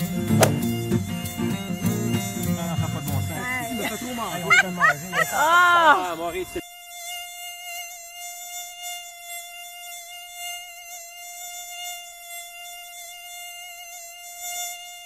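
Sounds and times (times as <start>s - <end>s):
mosquito whine: 0.0s - 15.0s.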